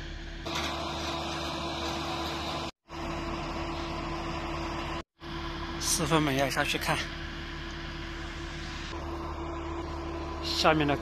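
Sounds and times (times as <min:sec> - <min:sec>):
heavy construction machinery drone: 0:00.0 - 0:11.0.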